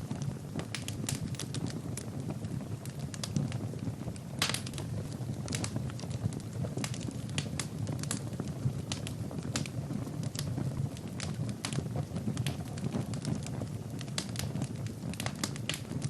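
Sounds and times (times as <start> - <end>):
logs crackling and popping: 0.0 - 16.0
low rumble of flame: 0.0 - 16.0.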